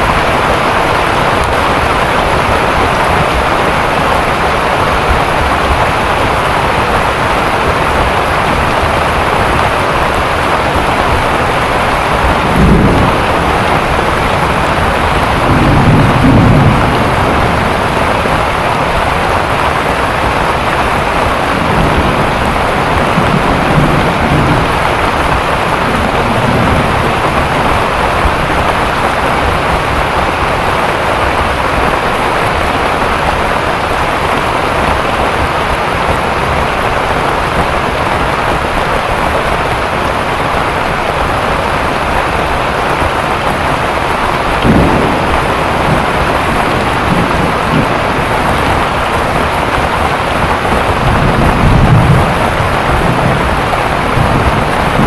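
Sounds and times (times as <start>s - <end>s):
heavy rain pouring: 0.0s - 55.0s
thunder rumbling: 0.0s - 55.0s.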